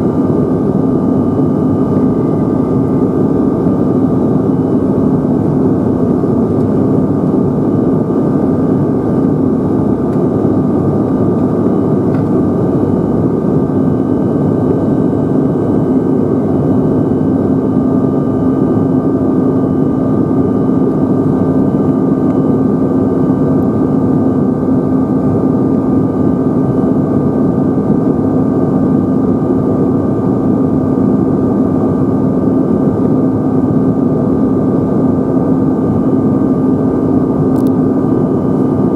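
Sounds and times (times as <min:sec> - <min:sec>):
airplane cabin engine rush: 0:00.0 - 0:38.9
high engine whine: 0:00.0 - 0:38.9.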